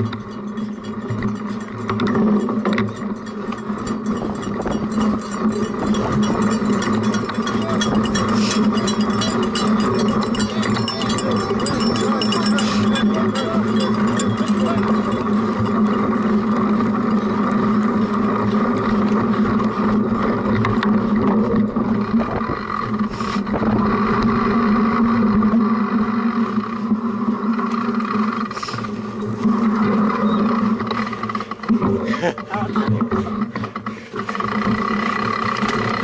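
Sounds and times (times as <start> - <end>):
bike rattles and knocks: 0.0 - 36.0
steady droning hum: 0.0 - 36.0.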